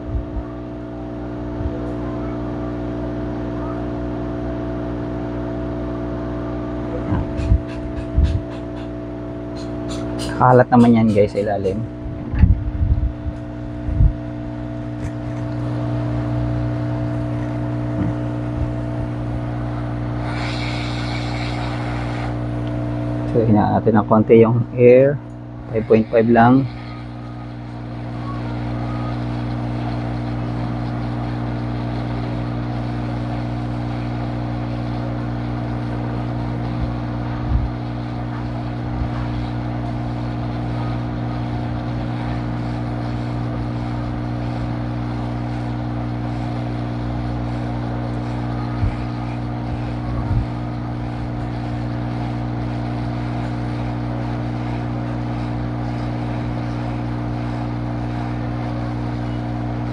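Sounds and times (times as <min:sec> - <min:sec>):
hot air blower whir: 0:00.0 - 0:59.9.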